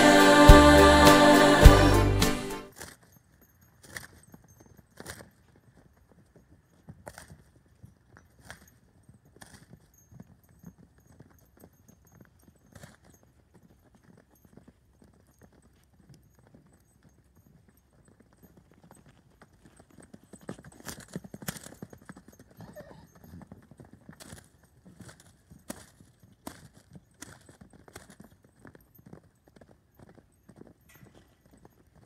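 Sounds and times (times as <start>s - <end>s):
hoofbeats on soft dirt: 2.7s - 32.0s.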